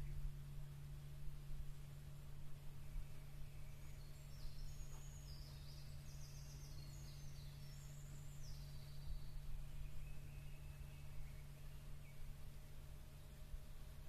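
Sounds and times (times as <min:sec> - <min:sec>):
steady low hum: 0:00.0 - 0:14.0
small bird singing: 0:02.6 - 0:14.0.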